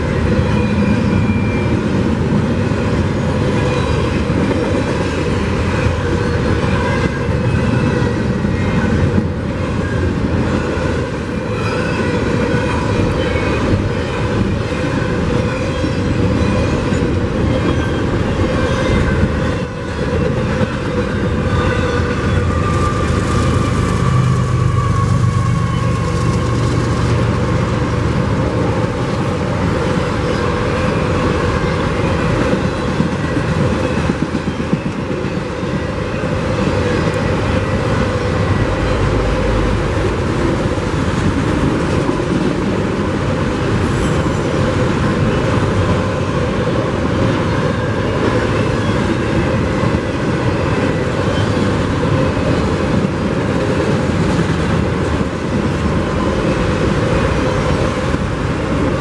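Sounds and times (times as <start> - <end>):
diesel locomotive engine hum: 0.0 - 59.0
train wheels rumbling on rails: 0.0 - 59.0.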